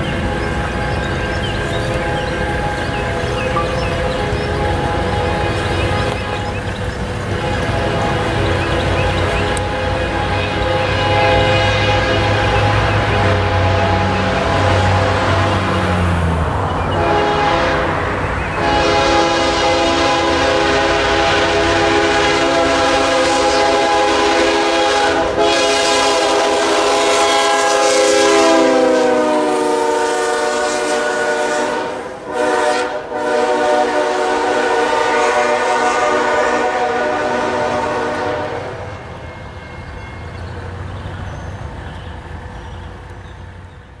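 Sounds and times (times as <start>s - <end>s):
locomotive air horn: 0.0s - 16.0s, 16.9s - 40.2s
low train rumble: 0.0s - 44.0s.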